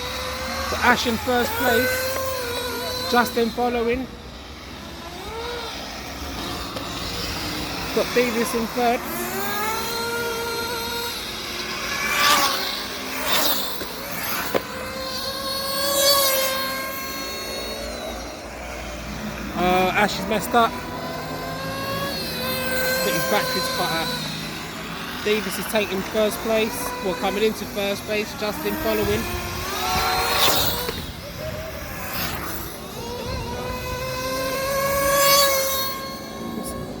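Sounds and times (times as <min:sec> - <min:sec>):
rc car motors passing: 0:00.0 - 0:37.0.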